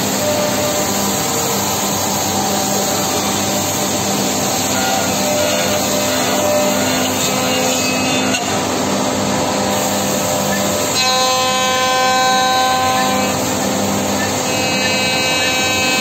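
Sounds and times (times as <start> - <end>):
multi-tone machine whine: 0.0 - 16.0
saw blades cutting wood: 0.0 - 16.0.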